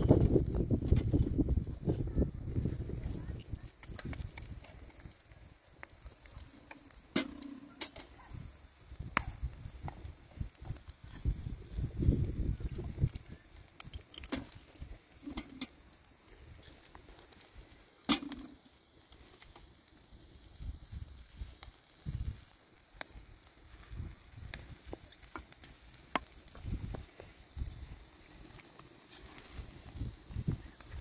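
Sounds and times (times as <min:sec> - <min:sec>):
embers crackling and popping: 0:00.0 - 0:31.0.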